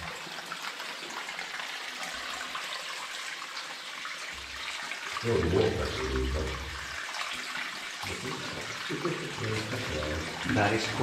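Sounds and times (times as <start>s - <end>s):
running water hissing: 0.0s - 11.0s.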